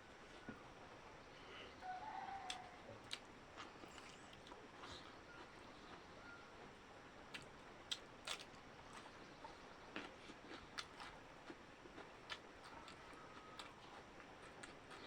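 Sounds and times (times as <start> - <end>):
soft chewing: 0.2 - 15.0.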